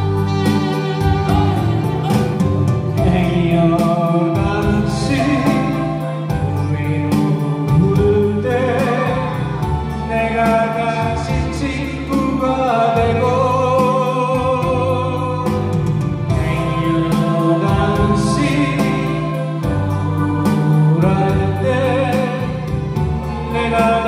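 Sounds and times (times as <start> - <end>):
instrumental accompaniment: 0.0 - 24.0
steady bass line: 0.0 - 24.0
man singing into microphone: 2.9 - 24.0.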